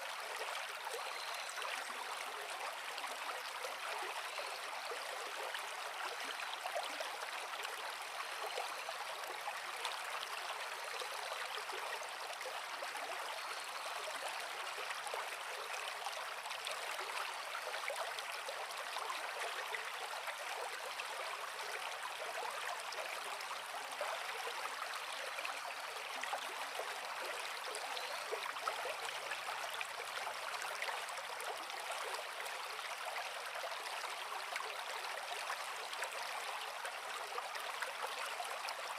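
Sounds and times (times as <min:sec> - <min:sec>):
creek water over rocks: 0:00.0 - 0:38.9.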